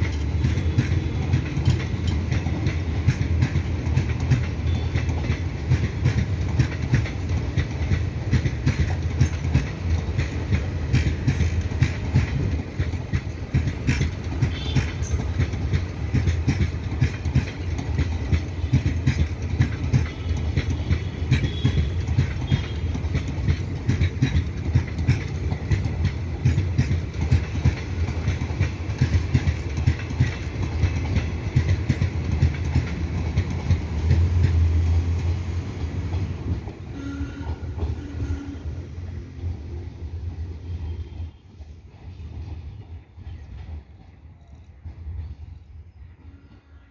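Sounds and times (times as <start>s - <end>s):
diesel locomotives chugging: 0.0s - 46.9s
train wheels clicking over rail joints: 0.0s - 46.9s.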